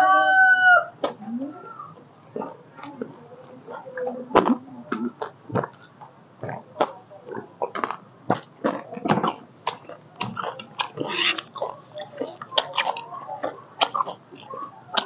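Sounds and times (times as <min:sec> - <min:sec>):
crunchy chewing: 0:02.2 - 0:15.0.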